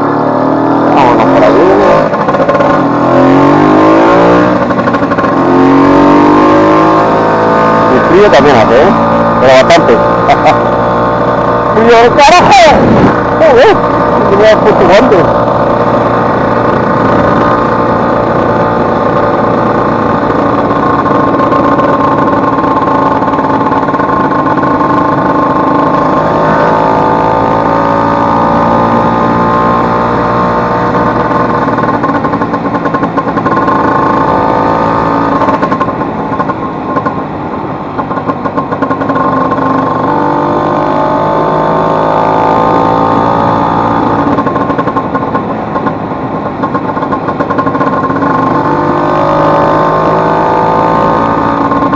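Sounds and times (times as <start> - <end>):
scooter engine running: 0.0 - 51.9.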